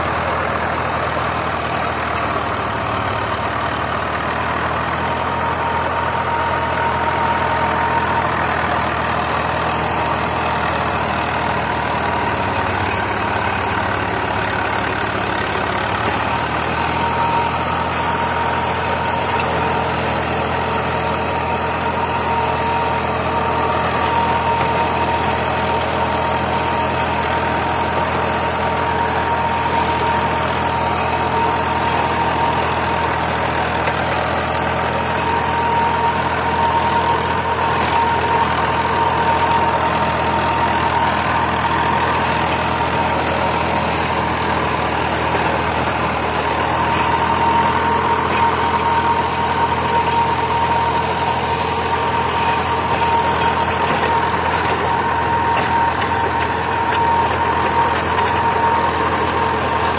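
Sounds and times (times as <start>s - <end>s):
diesel tractor engine: 0.0s - 59.9s
rotavator churning soil: 0.0s - 59.9s.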